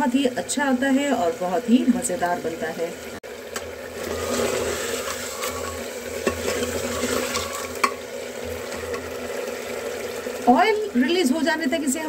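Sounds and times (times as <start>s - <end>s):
meat sizzling: 0.0s - 12.0s.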